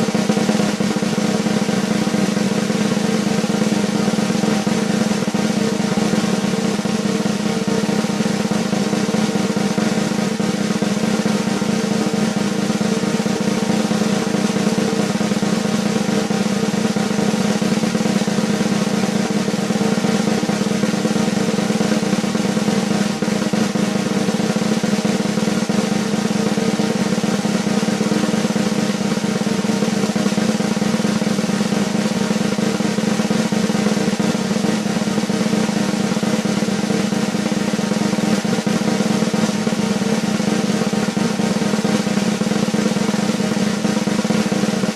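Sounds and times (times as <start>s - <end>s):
snare drum roll: 0.0s - 44.9s.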